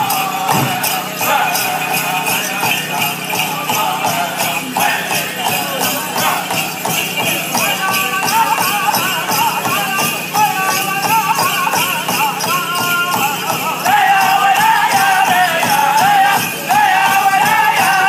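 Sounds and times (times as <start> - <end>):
bells jingling: 0.0 - 18.0
drum beat: 0.0 - 18.0
men singing: 0.0 - 18.0.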